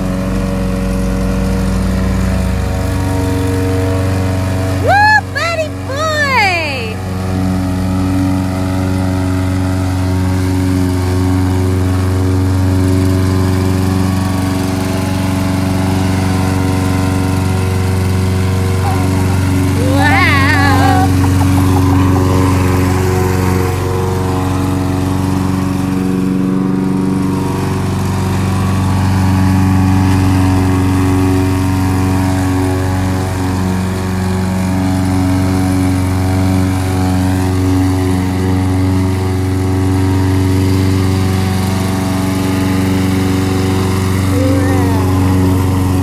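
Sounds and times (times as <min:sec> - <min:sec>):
lawn mower engine running: 0:00.0 - 0:46.0.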